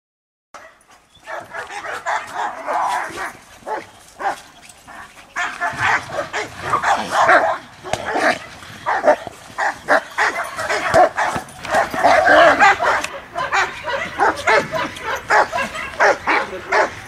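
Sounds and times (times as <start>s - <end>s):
dogs barking and yipping: 0.6s - 17.0s.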